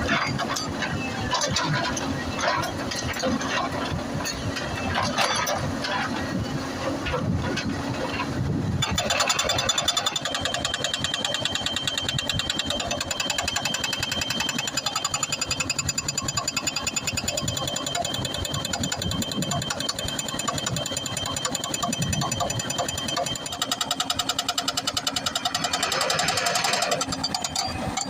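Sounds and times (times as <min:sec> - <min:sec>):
excavator engine running: 0:00.0 - 0:28.0
hydraulic breaker pounding rock: 0:00.0 - 0:28.0.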